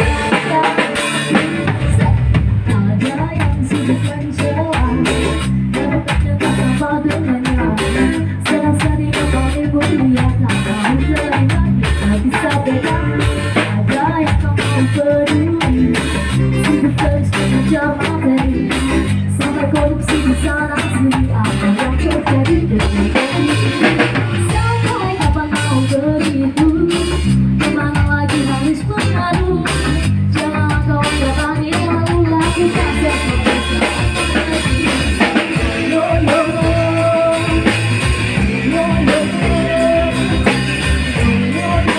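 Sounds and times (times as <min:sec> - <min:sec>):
person singing: 0:00.0 - 0:41.9
reggae band playing: 0:00.0 - 0:41.9.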